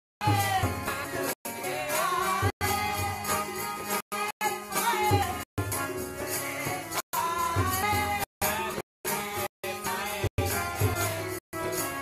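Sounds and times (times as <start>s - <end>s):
harmonium: 0.2s - 12.0s
tabla: 0.2s - 12.0s
group singing: 0.3s - 12.0s.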